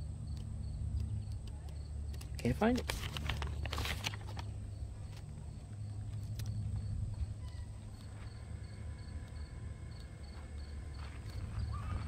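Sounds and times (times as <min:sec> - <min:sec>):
insect chirping: 0:00.0 - 0:02.7, 0:04.3 - 0:12.0
low steady rumble: 0:00.0 - 0:12.0.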